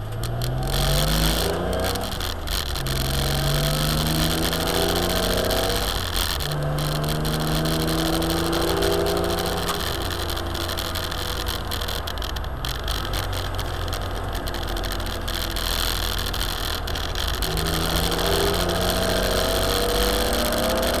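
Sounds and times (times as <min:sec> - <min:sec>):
car engine accelerating: 0:00.0 - 0:21.0
road and wind rumble: 0:00.0 - 0:21.0.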